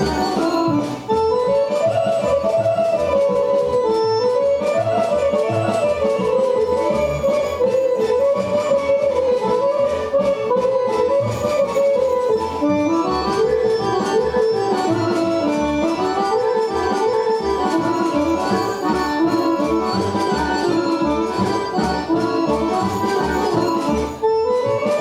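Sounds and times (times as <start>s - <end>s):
accordion folk dance music: 0.0s - 25.0s.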